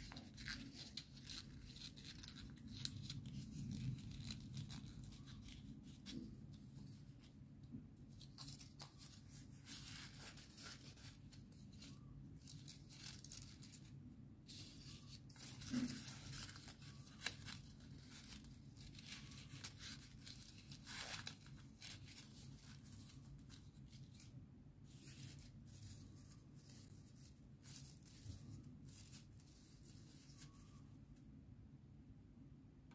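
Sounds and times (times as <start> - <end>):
paper rustling and crinkling: 0.0 - 7.4, 8.1 - 31.0.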